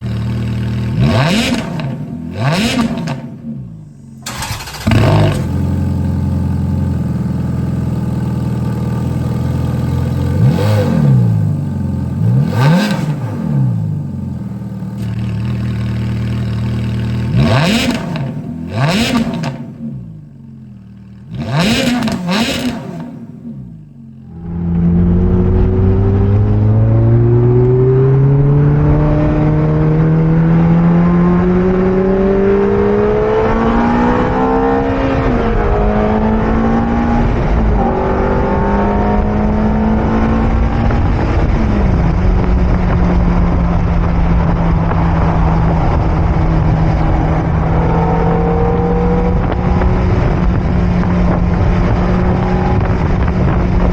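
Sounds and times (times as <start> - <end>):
road and wind noise: 0.0 - 53.9
sports car engine revving: 0.0 - 53.9.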